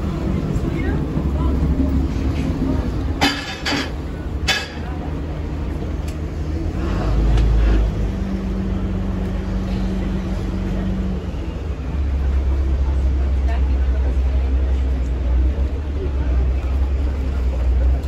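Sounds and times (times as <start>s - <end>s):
boat engine rumbling: 0.0s - 18.0s.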